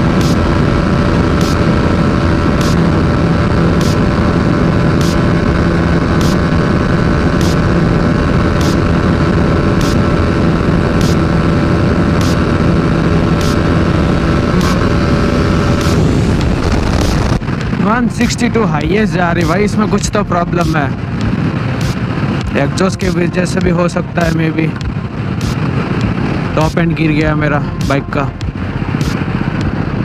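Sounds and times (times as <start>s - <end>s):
motorcycle engine at high revs: 0.0s - 30.0s
wind and road noise: 0.0s - 30.0s.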